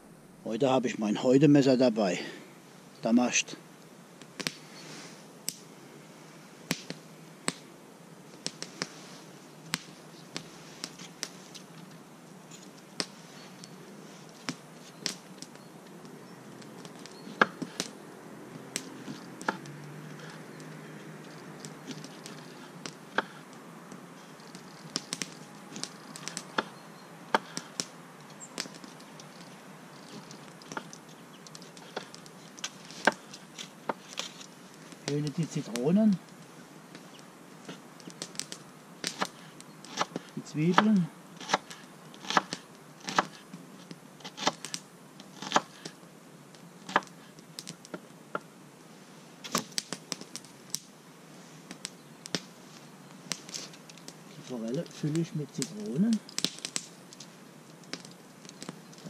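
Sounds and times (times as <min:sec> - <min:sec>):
low background hiss: 0:00.0 - 0:59.0.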